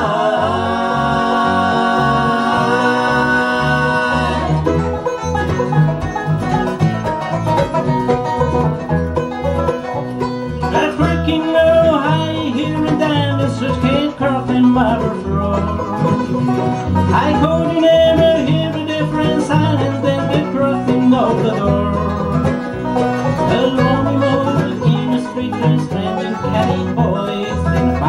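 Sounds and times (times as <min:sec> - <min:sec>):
banjo picking: 0:00.0 - 0:28.0
bluegrass band playing: 0:00.0 - 0:28.0.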